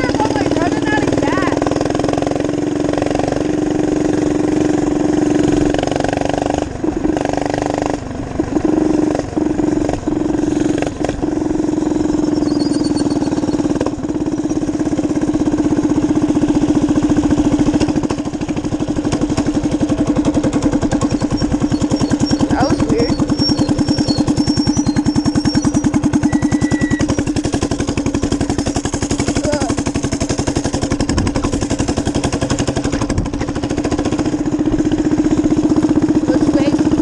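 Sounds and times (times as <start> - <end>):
minibike engine running: 0.0 - 37.0.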